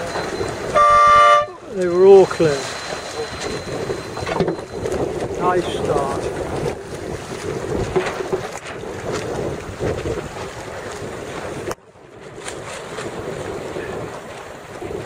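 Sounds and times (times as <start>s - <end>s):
strong wind on microphone: 0.0s - 15.0s
water slapping: 0.0s - 15.0s.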